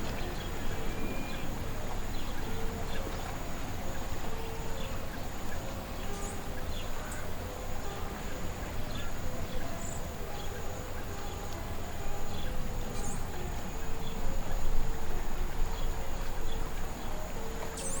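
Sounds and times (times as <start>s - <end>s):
bird chirping: 0.0s - 18.0s
high-pitched insect drone: 0.0s - 18.0s
wind rumble on microphone: 0.0s - 18.0s.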